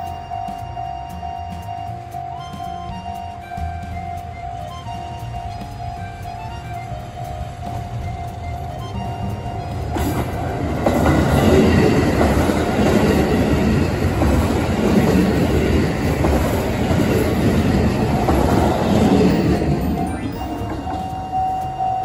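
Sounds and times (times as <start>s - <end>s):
diesel train passing at speed: 0.0s - 22.0s.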